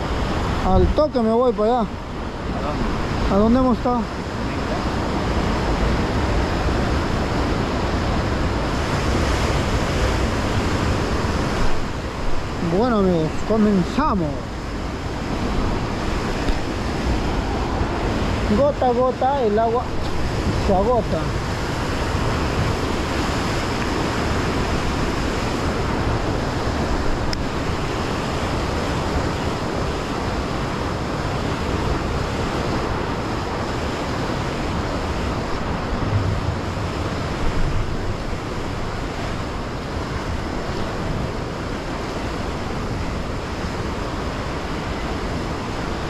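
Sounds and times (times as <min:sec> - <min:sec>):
sea surf breaking over rocks: 0:00.0 - 0:46.0
wind buffeting microphone: 0:00.0 - 0:46.0.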